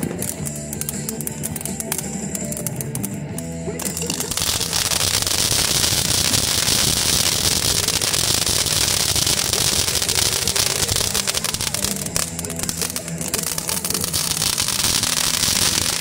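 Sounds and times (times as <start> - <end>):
firework fountain hissing and crackling: 0.0 - 16.0.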